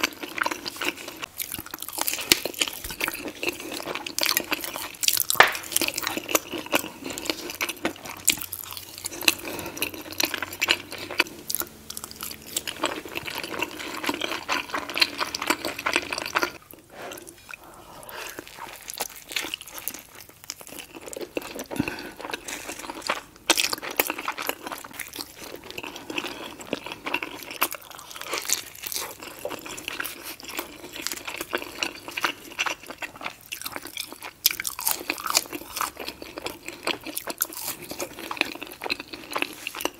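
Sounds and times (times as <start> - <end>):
bites and chewing: 0.0 - 39.9
wet chewing mouth sounds: 0.0 - 39.9.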